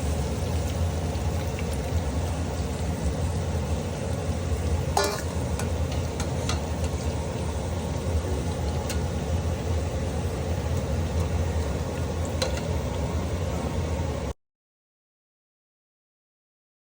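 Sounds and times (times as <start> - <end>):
deep-frying in hot oil sizzle: 0.0 - 14.4.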